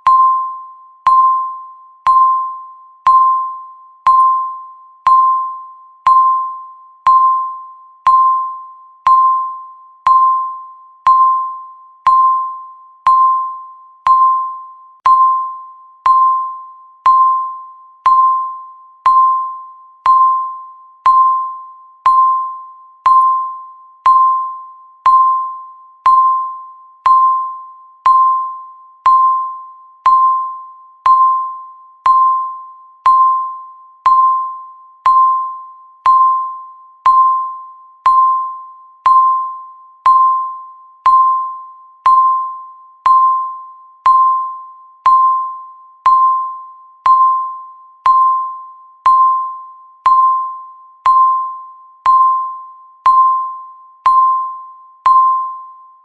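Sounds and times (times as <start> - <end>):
timer bell-like ding: 0.0 - 56.0.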